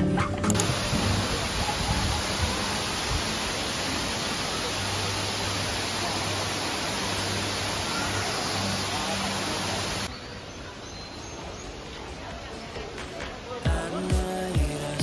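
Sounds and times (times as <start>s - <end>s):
waterfall rushing: 0.4s - 10.1s, 11.4s - 15.0s.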